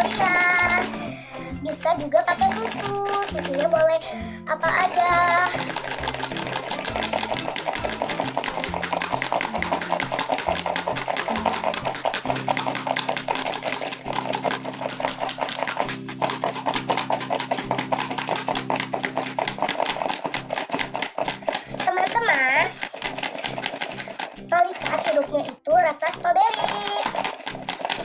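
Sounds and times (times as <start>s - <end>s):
background music: 0.0s - 28.0s
ice cubes and salt rattling: 0.0s - 28.0s.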